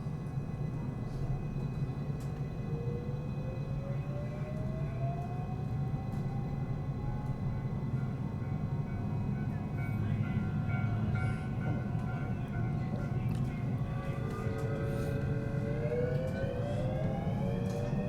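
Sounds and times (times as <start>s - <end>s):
wheels rumbling on rail: 0.1s - 18.0s.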